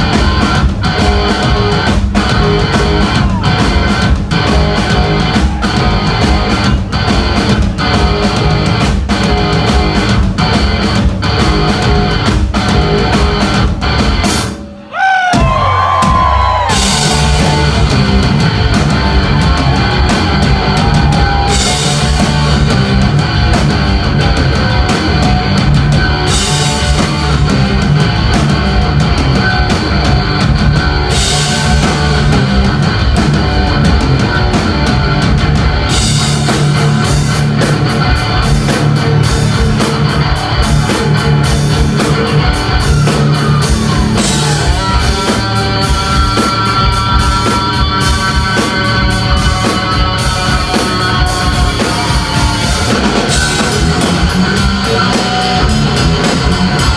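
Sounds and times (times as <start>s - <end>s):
distorted electric guitar sliding: 0.0s - 14.5s, 16.4s - 56.9s
heavy rock band playing: 0.0s - 56.9s.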